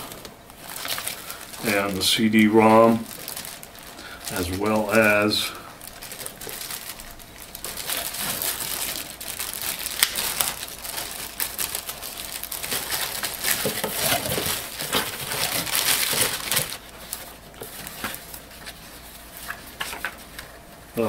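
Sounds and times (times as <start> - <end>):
paper rustling: 0.0 - 20.8
plastic packaging crinkling: 0.0 - 21.0.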